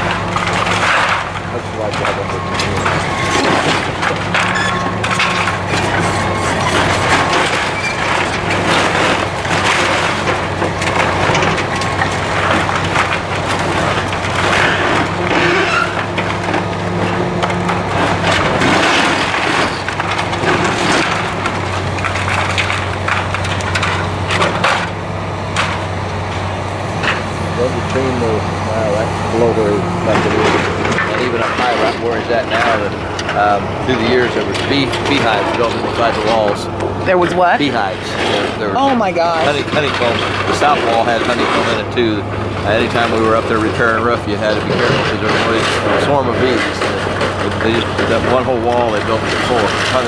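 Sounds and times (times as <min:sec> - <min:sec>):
diesel engine hum: 0:00.0 - 0:50.0
timbers cracking and crashing: 0:00.0 - 0:50.0.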